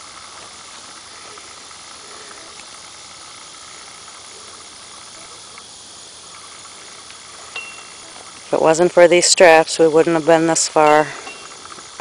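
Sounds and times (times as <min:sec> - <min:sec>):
insect chorus hissing: 0:00.0 - 0:12.0.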